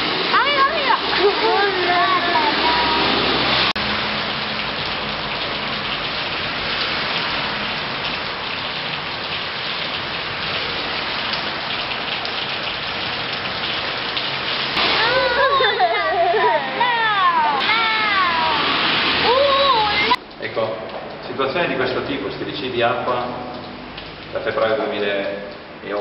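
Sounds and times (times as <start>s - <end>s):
water dripping onto flooded floor: 0.0s - 26.0s.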